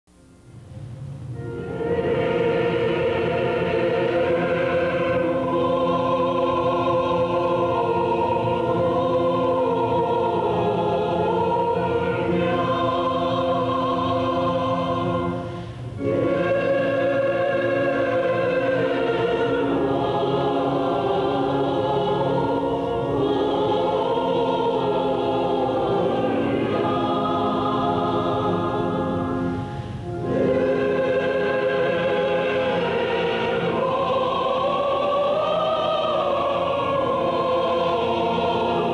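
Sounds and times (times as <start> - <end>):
choir singing: 1.4 - 38.9.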